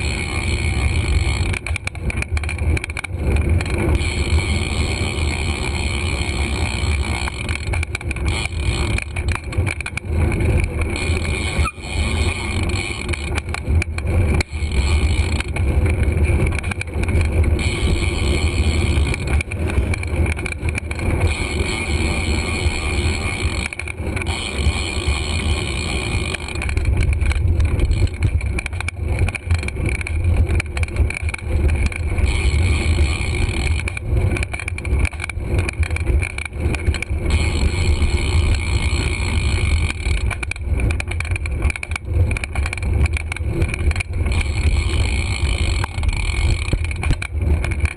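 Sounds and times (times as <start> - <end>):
bicycle tyre and road noise: 0.0 - 47.9.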